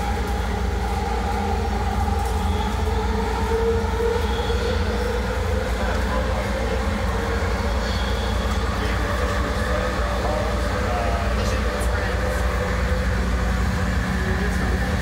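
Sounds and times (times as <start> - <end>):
metro car rumbling on track: 0.0 - 15.0.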